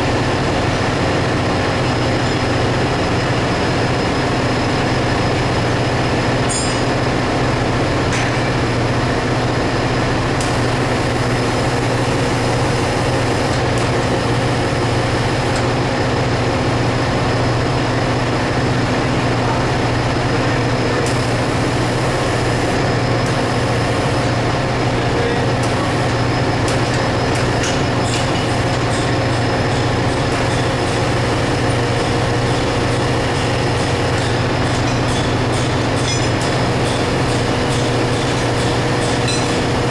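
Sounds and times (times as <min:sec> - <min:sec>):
engine room machinery drone: 0:00.0 - 0:39.9.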